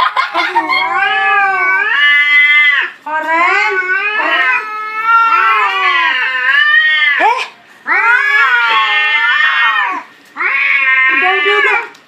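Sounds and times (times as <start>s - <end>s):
cats yowling: 0.0s - 12.0s.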